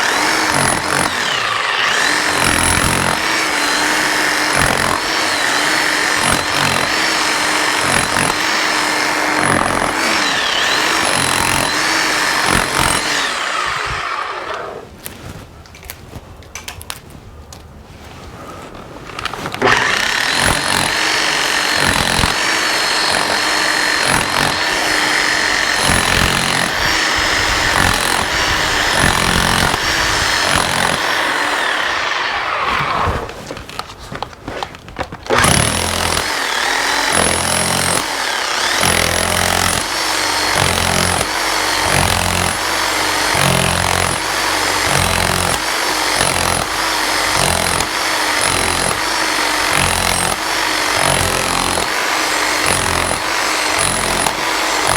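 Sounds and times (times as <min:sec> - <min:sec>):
power tool pulsing into concrete: 0:00.0 - 0:14.9, 0:19.2 - 0:54.9.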